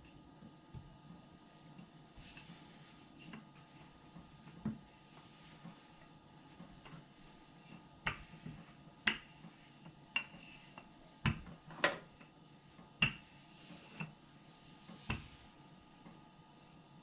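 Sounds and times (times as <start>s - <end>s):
rolling pin rolling dough: 0.0s - 17.0s.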